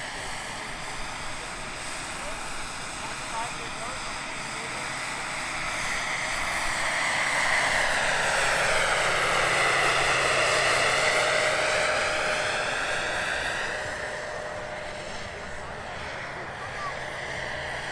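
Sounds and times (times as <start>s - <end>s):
model helicopter turbine whine: 0.0s - 17.9s.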